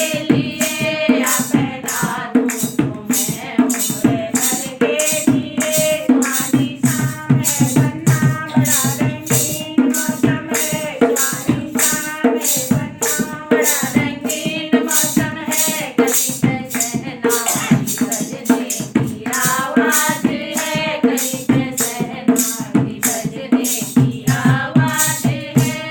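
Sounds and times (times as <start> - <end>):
shaken rattle percussion beat: 0.0 - 25.9
voices singing folk song: 0.0 - 25.9.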